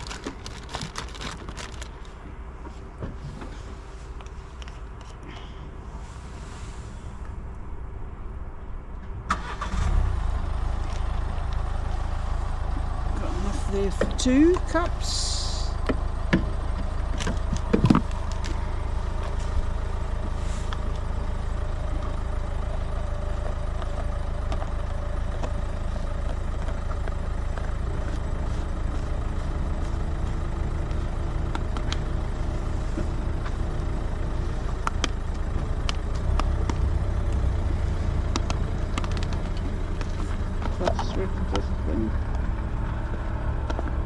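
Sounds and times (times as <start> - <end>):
generator engine drone: 0.0 - 44.0.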